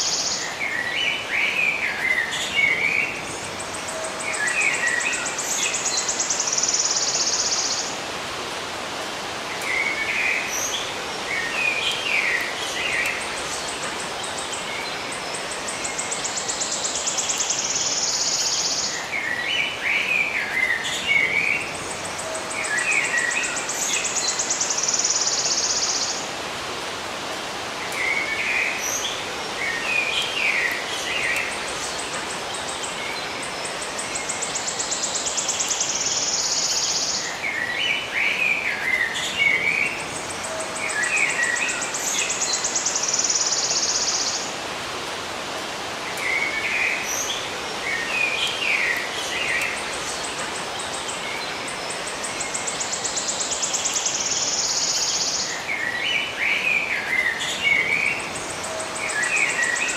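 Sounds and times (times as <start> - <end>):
songbirds chirping: 0.0 - 59.9
steady hiss: 0.0 - 59.9.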